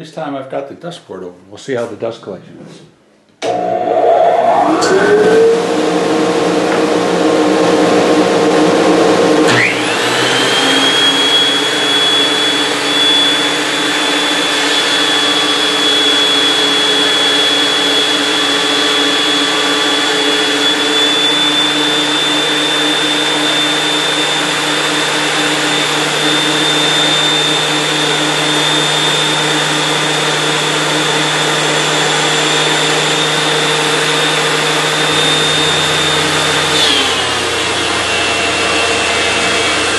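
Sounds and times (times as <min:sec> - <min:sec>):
dust collector humming: 0:03.4 - 0:39.9
planer whine: 0:03.4 - 0:39.9.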